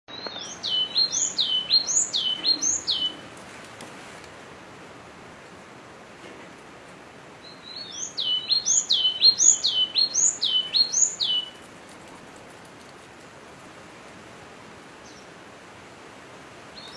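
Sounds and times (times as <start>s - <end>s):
background hiss: 0.1s - 16.9s.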